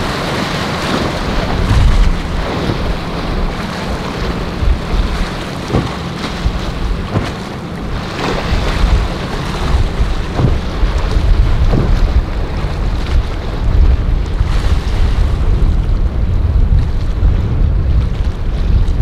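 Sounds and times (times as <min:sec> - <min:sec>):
outboard motor running: 0:00.0 - 0:19.0
water splashing: 0:00.0 - 0:19.0
wind noise on microphone: 0:00.0 - 0:19.0.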